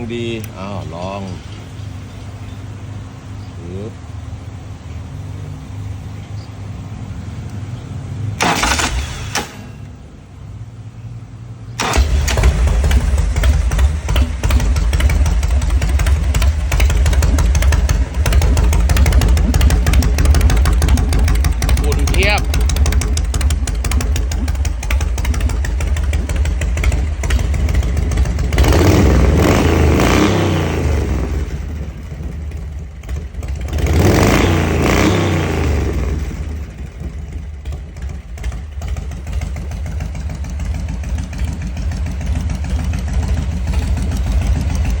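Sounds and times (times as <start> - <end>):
motorcycle engine idling and revving: 0.0 - 45.0.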